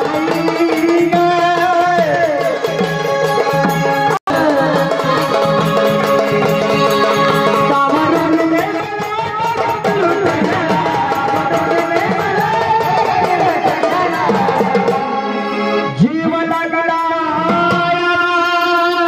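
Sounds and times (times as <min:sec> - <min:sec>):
drums beating: 0:00.0 - 0:19.0.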